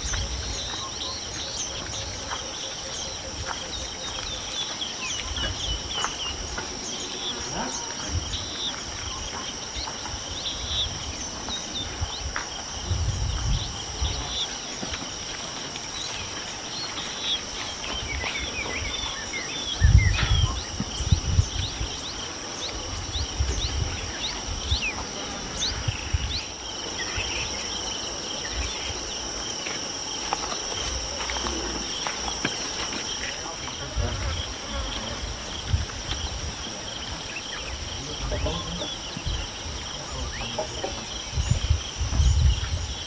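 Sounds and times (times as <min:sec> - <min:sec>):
insects calling: 0:00.0 - 0:43.0.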